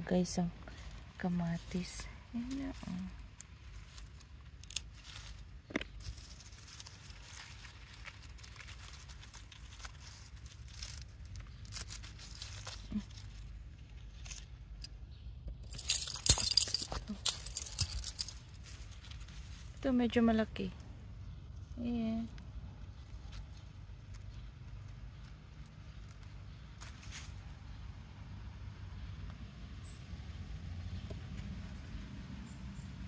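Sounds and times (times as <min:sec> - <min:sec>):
leaves and stems rustling: 0:00.0 - 0:15.0, 0:15.6 - 0:27.8.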